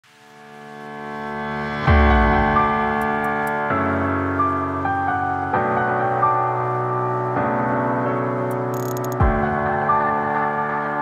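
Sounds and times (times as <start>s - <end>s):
soft keyboard music: 0.2s - 11.0s.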